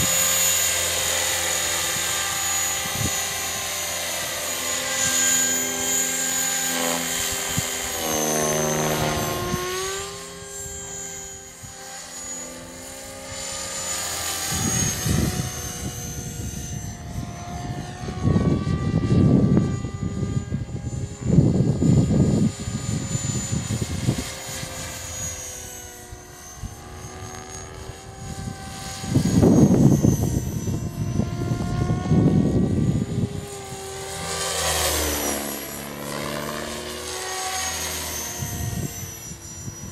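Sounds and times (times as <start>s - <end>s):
wind gusts on microphone: 0.0s - 11.8s, 13.2s - 39.9s
rc helicopter motor and rotor whine: 0.0s - 39.9s.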